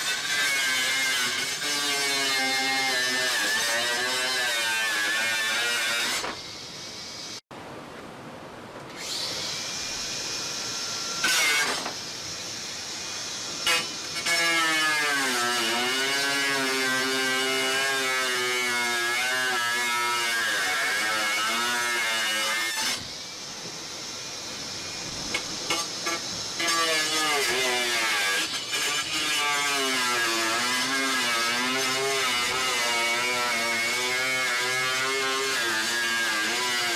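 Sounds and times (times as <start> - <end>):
angle grinder cutting: 0.0 - 7.4, 8.9 - 36.9.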